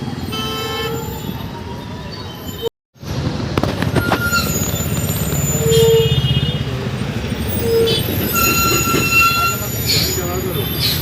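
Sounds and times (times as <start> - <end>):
bus and truck engine rumble: 0.0 - 11.0.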